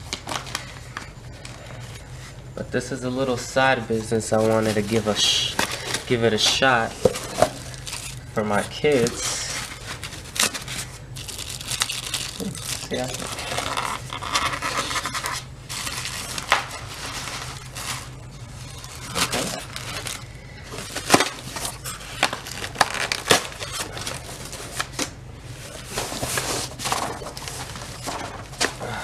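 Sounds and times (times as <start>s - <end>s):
packaging rustling and tearing: 0.0s - 2.3s, 3.9s - 29.0s.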